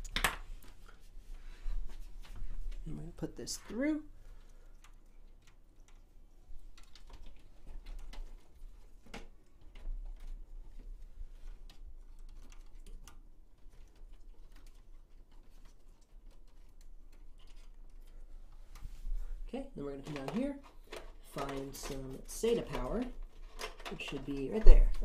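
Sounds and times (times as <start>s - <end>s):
light clicks taps and rustles: 0.0s - 19.0s, 19.8s - 25.0s.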